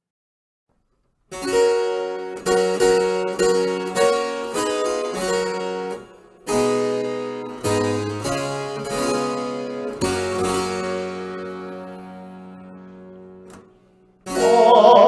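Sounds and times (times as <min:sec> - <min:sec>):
keyboard hymn chords: 0:01.3 - 0:15.0.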